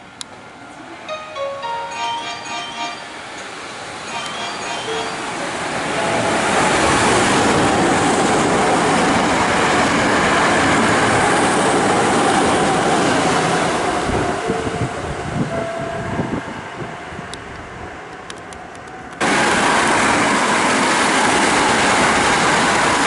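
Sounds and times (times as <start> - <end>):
train wheels rushing on rail: 2.7 - 23.0.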